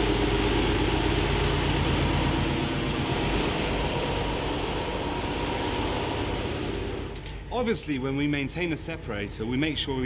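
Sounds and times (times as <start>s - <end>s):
engine room machinery hum: 0.0s - 10.0s.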